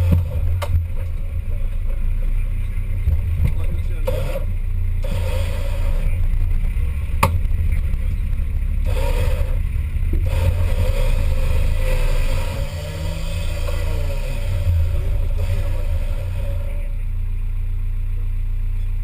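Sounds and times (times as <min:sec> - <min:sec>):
engine running low rumble: 0:00.0 - 0:19.0.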